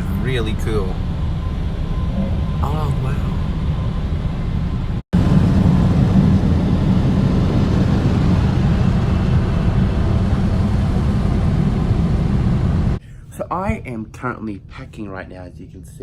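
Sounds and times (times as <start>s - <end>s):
car wash blowers rushing air: 0.0s - 13.0s.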